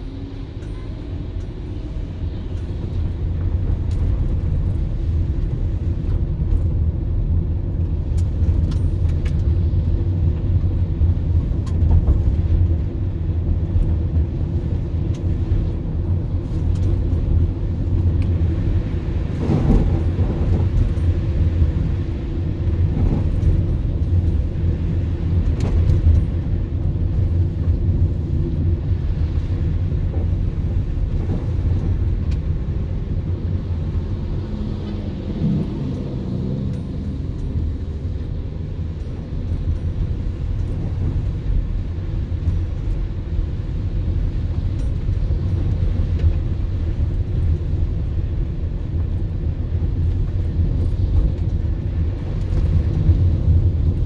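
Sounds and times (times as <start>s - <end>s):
car driving on wet road: 0.0s - 54.0s.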